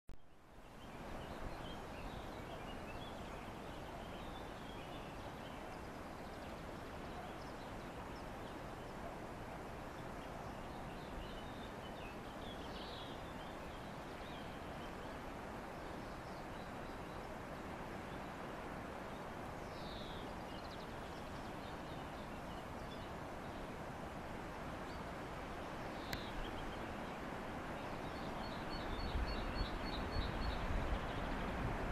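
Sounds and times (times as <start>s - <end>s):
outdoor background hiss: 0.1s - 31.9s.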